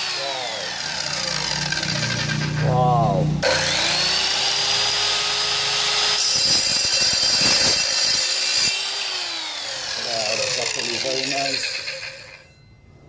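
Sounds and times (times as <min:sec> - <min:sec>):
saw blade grinding through steel: 0:00.0 - 0:12.7
circular saw whining: 0:00.0 - 0:13.0.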